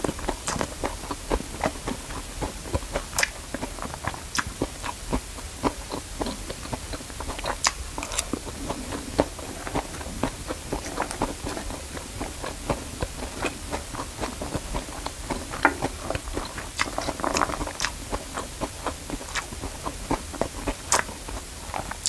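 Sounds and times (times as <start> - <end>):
chewing with mouth clicks: 0.0 - 22.0.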